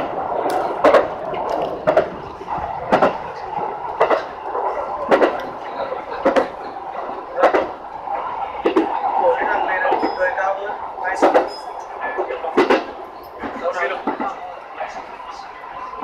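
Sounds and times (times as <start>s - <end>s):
electric train running: 0.0s - 16.0s
wheels clicking over rail joints: 0.0s - 16.0s.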